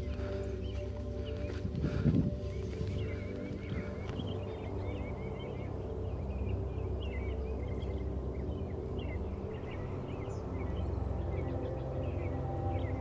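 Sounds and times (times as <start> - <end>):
ambient music: 0.0 - 13.0
songbirds chirping and twittering: 0.0 - 13.0.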